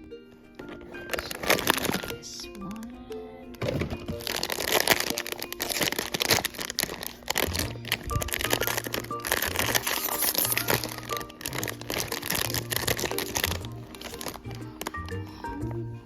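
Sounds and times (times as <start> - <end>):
light background music: 0.0 - 16.0
packaging crinkling: 0.6 - 2.9, 3.5 - 15.3.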